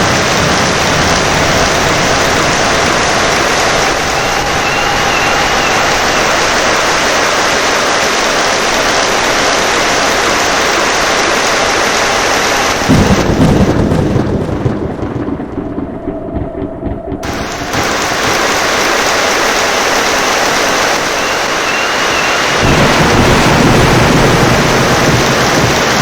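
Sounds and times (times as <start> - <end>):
heavy rain falling: 0.0 - 16.5, 17.2 - 26.0
thunder clap and rumble: 0.0 - 26.0.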